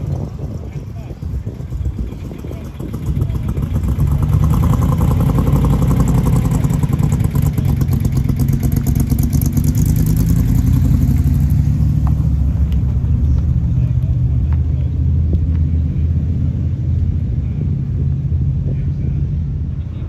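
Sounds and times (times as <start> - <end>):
deep car engine rumble: 0.0 - 20.0.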